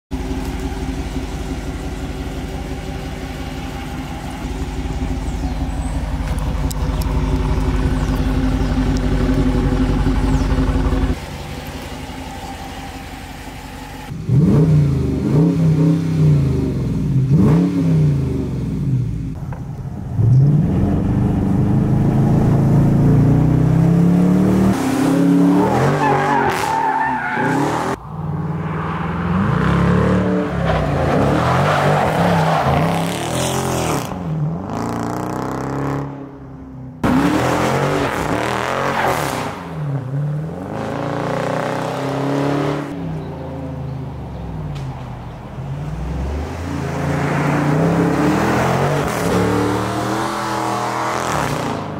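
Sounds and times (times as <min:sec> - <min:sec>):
car engine idling and revving: 0:00.1 - 0:51.9.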